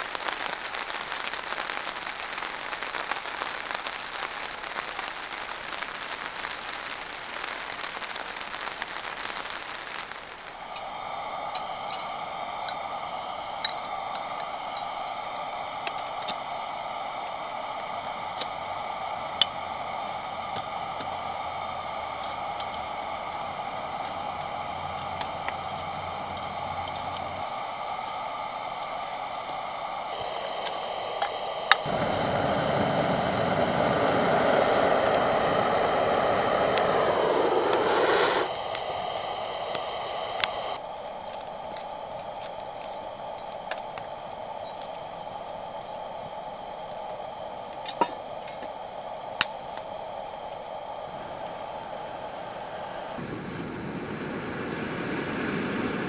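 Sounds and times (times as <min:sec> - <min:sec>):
steady background hiss: 0:00.0 - 0:56.0
loud rushing hiss: 0:09.6 - 0:56.0.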